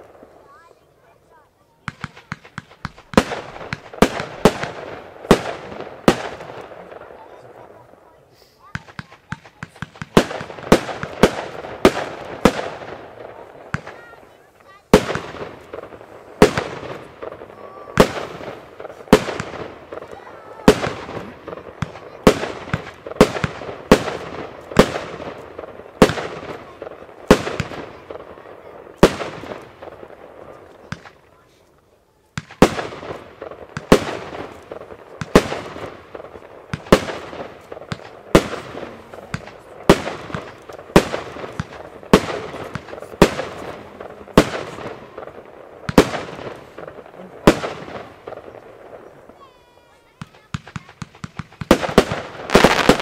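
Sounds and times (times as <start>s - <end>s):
fireworks cake firing sharp bangs: 0.0s - 53.0s.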